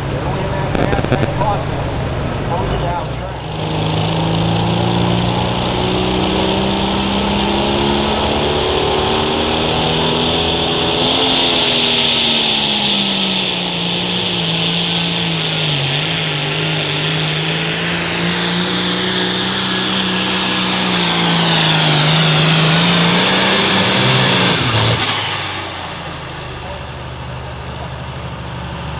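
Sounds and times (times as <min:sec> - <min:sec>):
diesel engine running hard: 0:00.0 - 0:28.9.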